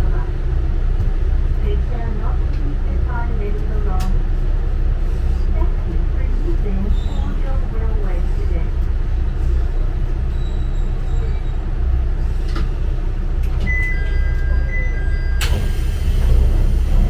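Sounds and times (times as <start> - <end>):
diesel railcar rumbling: 0.0 - 17.0.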